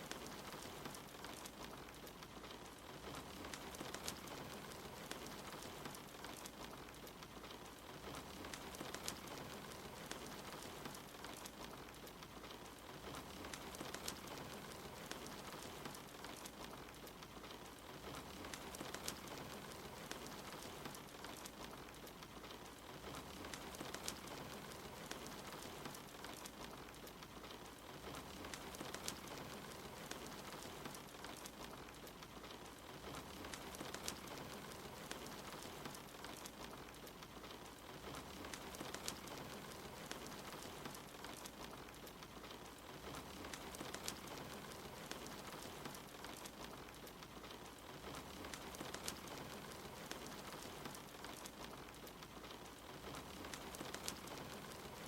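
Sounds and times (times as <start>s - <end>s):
steady rain: 0.0s - 55.0s
wood fire crackling: 0.0s - 55.0s.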